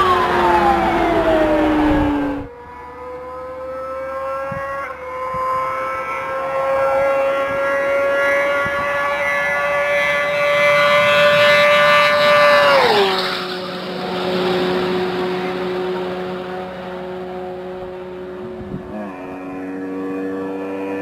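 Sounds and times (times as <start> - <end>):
motorcycle passing at high speed: 0.0 - 21.0.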